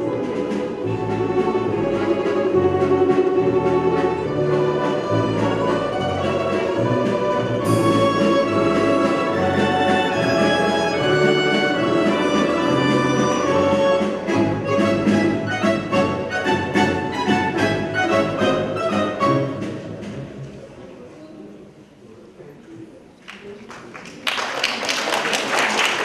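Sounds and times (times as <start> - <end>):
orchestral strings music: 0.0 - 20.8.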